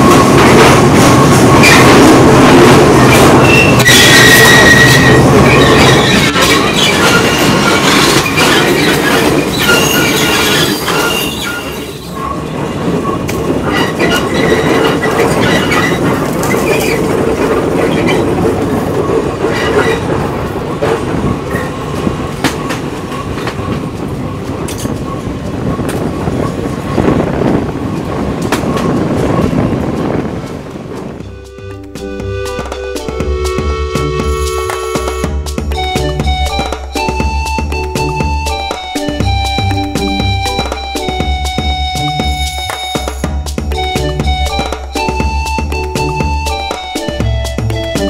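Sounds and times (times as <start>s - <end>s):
train wheels rumbling on rail: 0.0s - 48.0s
wheels squealing: 0.0s - 48.0s.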